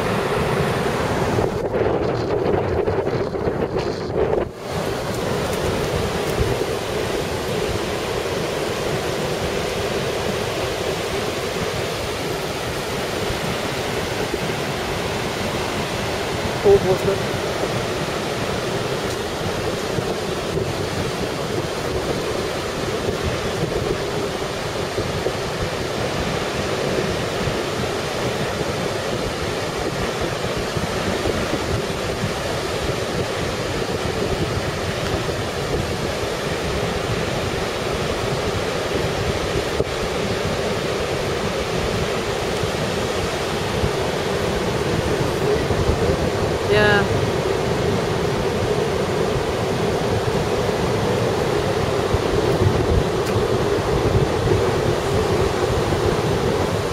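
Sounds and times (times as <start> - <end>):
surf breaking on beach: 0.0 - 56.9
wind on microphone: 0.0 - 56.9.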